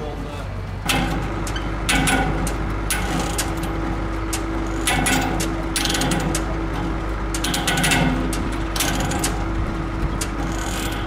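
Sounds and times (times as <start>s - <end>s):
steady hum: 0.0s - 11.0s
ratchet clicking: 0.9s - 11.0s.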